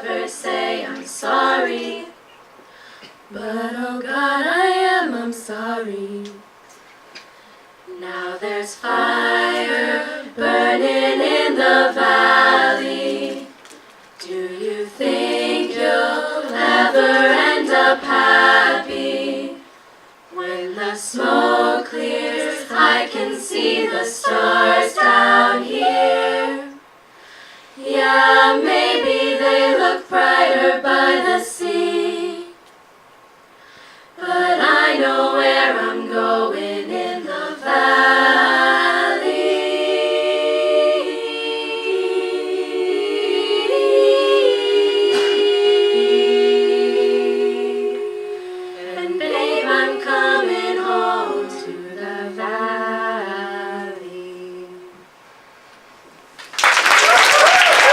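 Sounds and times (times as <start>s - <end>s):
a cappella close-harmony singing: 0.0s - 2.4s, 3.3s - 6.6s, 7.8s - 27.0s, 27.6s - 32.6s, 34.1s - 55.2s.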